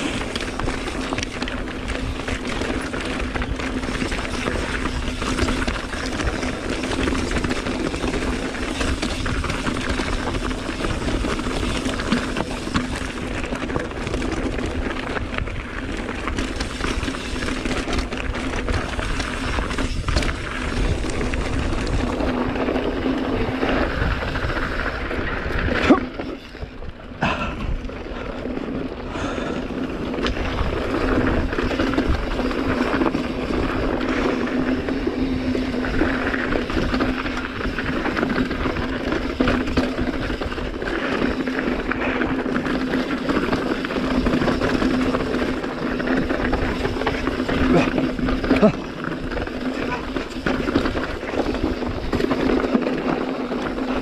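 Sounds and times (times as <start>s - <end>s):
bike rattling: 0.0s - 54.0s
tyres rolling over gravel: 0.0s - 54.0s.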